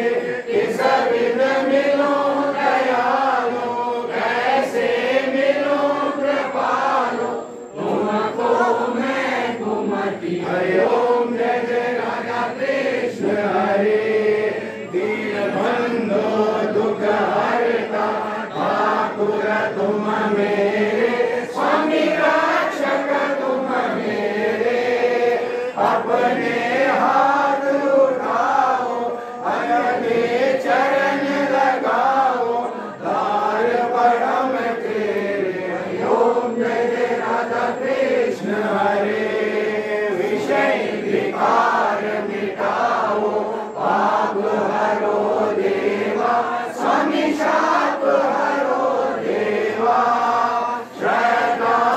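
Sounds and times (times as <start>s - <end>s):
crowd chanting in unison: 0.0s - 51.9s.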